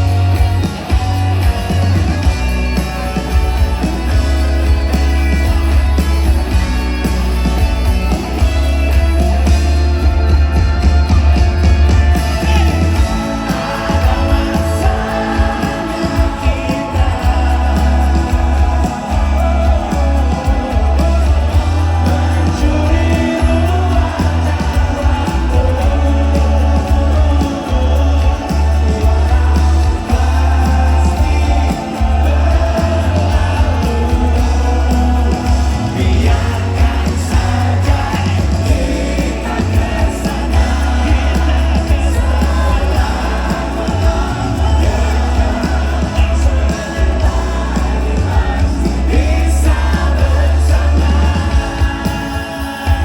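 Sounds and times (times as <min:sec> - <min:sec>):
booming bass: 0:00.0 - 0:53.0
live pop band with singing: 0:00.0 - 0:53.0.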